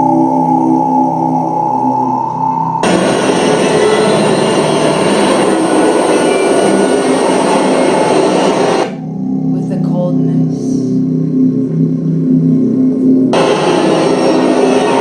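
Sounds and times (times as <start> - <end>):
dense wall of noise: 0.0 - 15.0
droning tone: 0.0 - 15.0.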